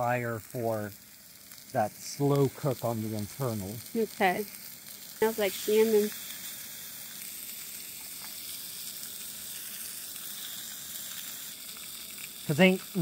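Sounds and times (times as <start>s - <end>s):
fish sizzling in a pan: 0.0s - 13.0s.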